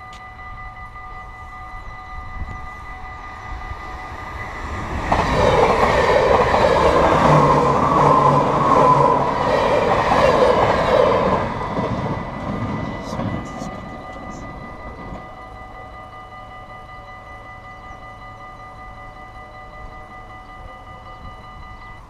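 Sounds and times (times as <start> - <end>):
electric train passing: 0.0 - 22.0
level crossing warning bells: 0.0 - 22.0.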